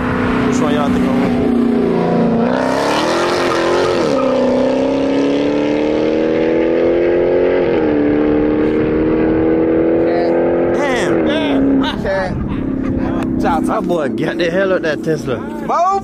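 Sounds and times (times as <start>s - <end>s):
car engine accelerating: 0.0s - 15.7s.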